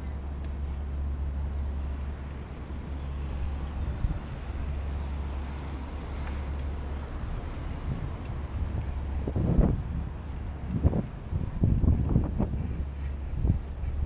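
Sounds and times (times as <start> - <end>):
car traffic passing: 0.0 - 14.0.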